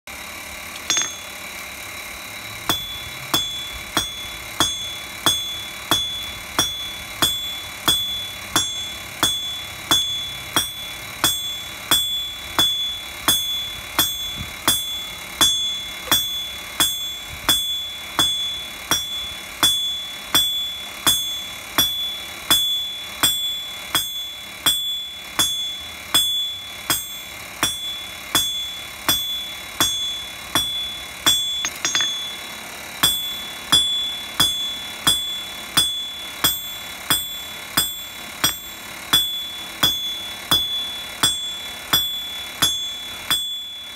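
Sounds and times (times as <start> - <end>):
hammer striking anvil: 0.7 - 1.5, 2.6 - 43.9.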